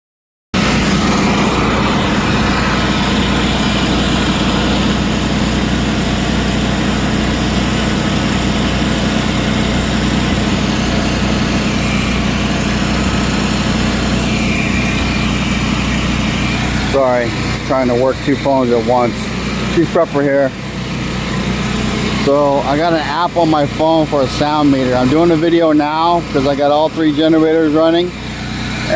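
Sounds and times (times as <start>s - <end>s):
generators running: 0.6s - 28.9s.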